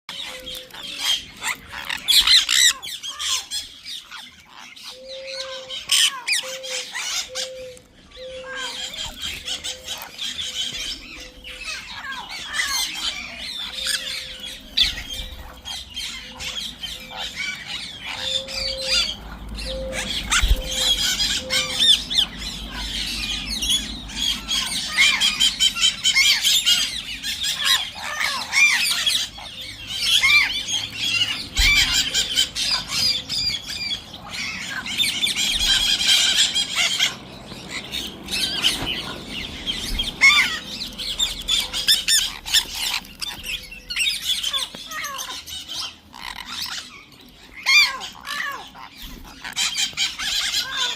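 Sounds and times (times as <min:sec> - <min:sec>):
parrots squawking: 0:00.1 - 0:50.9.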